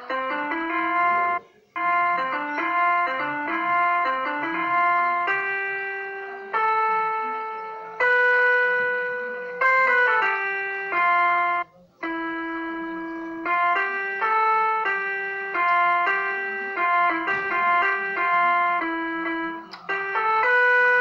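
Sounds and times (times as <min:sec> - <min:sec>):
organ-like keyboard chords: 0:00.0 - 0:21.0.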